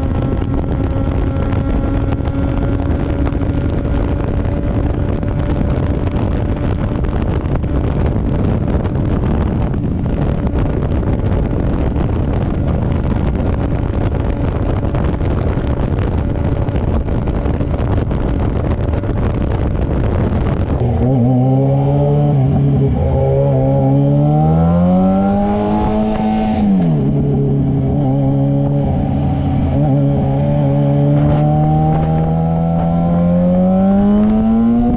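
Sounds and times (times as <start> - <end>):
motorcycle engine: 0.0 - 34.9
wind rush: 0.0 - 34.9.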